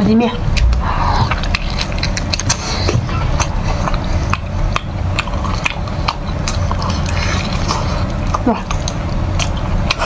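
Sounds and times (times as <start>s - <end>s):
chewing with clicks and smacks: 0.5s - 10.0s.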